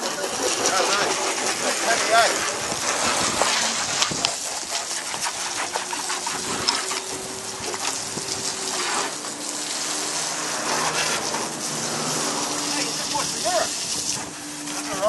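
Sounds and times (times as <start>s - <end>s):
water splashing and dripping: 0.0s - 15.0s
wet sponge scrubbing: 0.0s - 15.0s.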